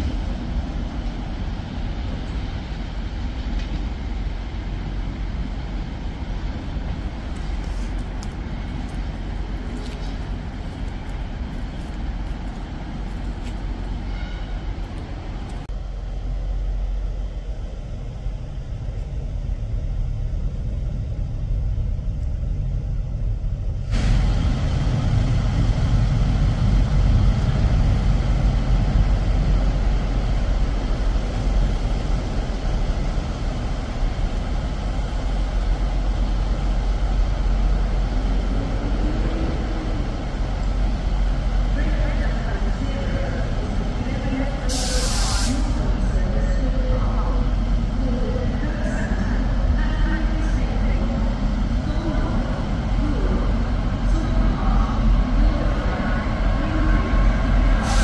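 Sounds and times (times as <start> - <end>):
train engine and rail rumble: 0.0 - 58.0.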